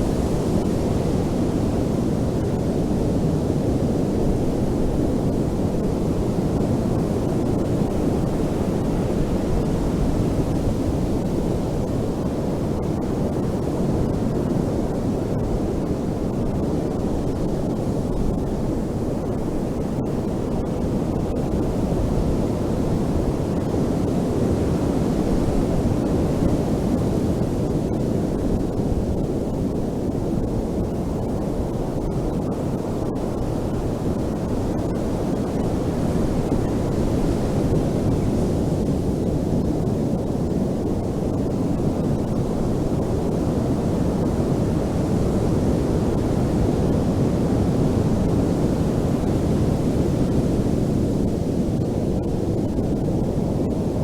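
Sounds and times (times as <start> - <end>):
ocean waves washing on beach: 0.0 - 54.0.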